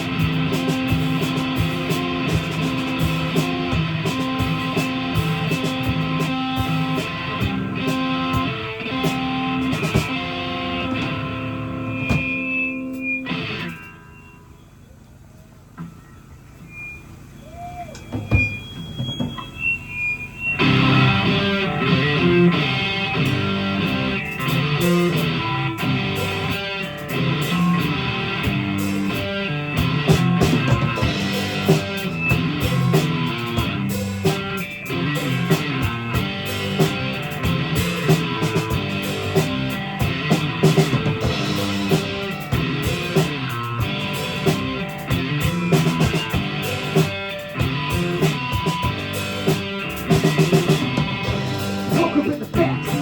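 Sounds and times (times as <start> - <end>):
drum kit: 0.0 - 13.9, 20.6 - 53.0
electric guitar: 0.0 - 14.6, 20.5 - 53.0.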